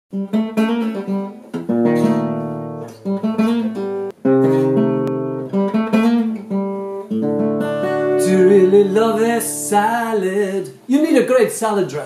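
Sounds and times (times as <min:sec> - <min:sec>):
acoustic guitar music: 0:00.1 - 0:12.0.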